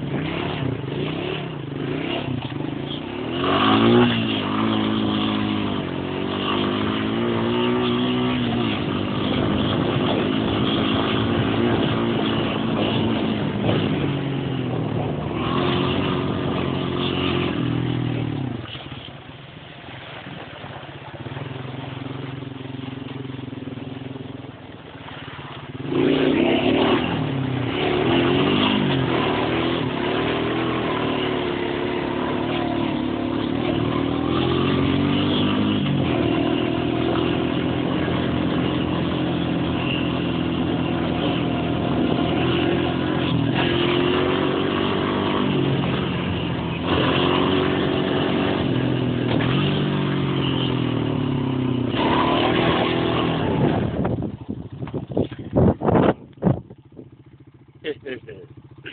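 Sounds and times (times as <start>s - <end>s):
quad bike engine revving: 0.0s - 19.1s, 20.2s - 58.9s.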